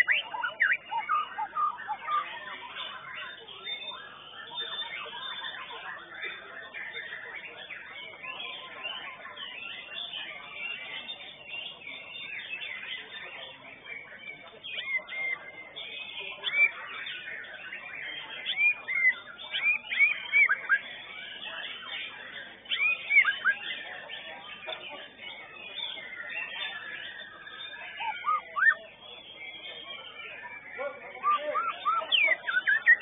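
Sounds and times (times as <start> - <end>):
loud whistled bird notes: 0.0 - 5.8, 6.9 - 24.7, 25.3 - 33.0
birds singing in chorus: 0.0 - 33.0.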